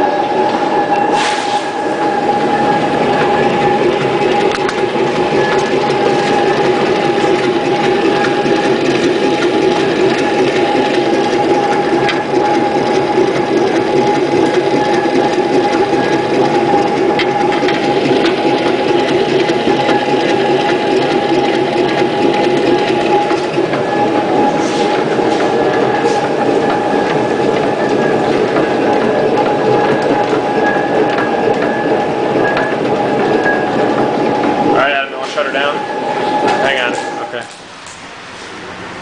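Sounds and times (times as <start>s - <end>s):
gear drive clatter: 2.0s - 37.6s.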